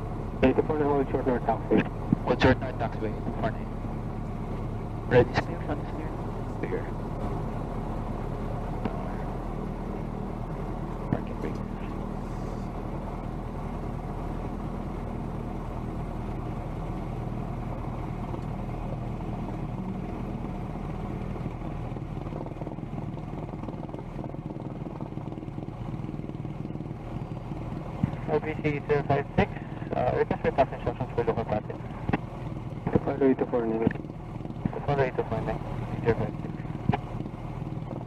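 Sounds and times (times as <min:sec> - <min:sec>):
light aircraft engine and propeller: 0:00.0 - 0:38.0.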